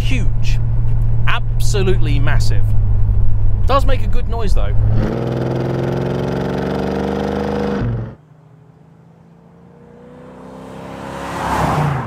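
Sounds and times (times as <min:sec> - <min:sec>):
car approaching and passing: 0:00.0 - 0:12.0
car engine accelerating: 0:00.0 - 0:12.0.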